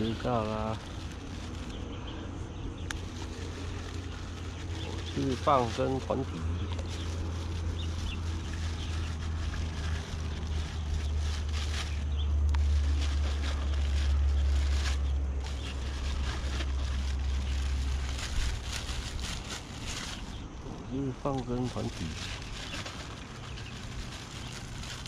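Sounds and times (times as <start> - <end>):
light rustling: 0.0 - 25.0
low rumble: 0.0 - 25.0.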